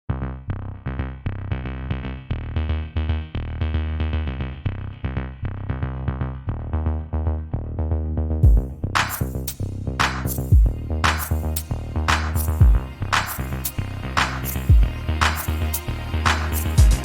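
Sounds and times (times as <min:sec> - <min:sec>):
deep bass: 0:00.0 - 0:17.0.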